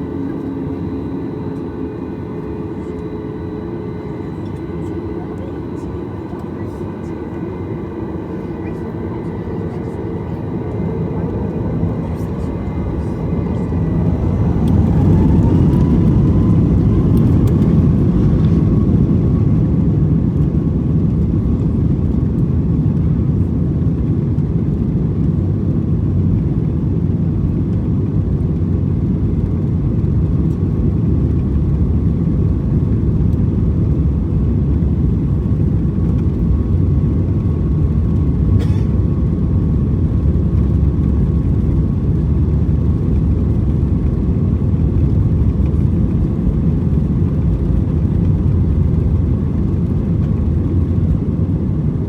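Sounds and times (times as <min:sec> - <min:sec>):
aircraft cabin engine noise: 0:00.0 - 0:52.0
jet engine whine: 0:00.0 - 0:52.0.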